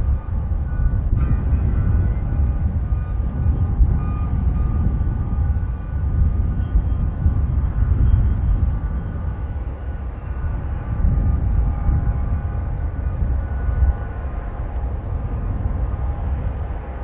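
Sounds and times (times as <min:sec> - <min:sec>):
faint jet engine whine: 0:00.0 - 0:17.0
wind buffeting microphone: 0:00.0 - 0:17.0.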